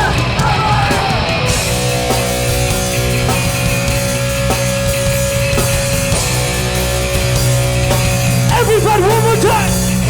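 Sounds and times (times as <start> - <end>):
distorted electric guitars: 0.0 - 10.0
drums: 0.0 - 10.0
punk band playing live: 0.0 - 10.0.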